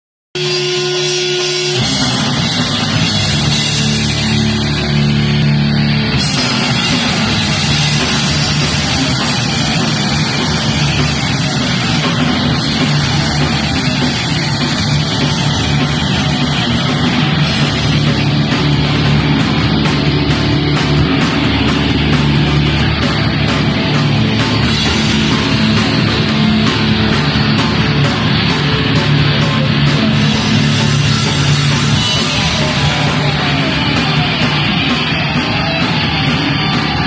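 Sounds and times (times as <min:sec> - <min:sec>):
punk band playing: 0:00.4 - 0:37.0.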